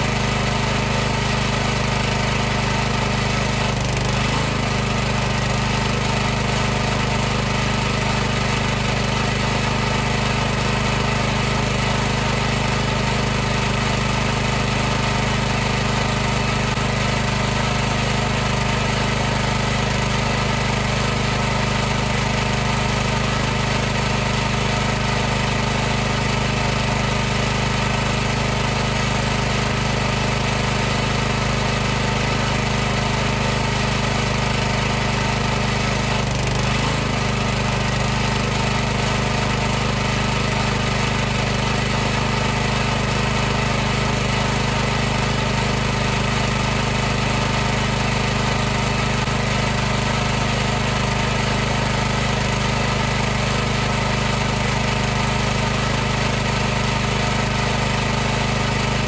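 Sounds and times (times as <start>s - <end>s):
pressure washer pump humming: 0.0s - 59.0s.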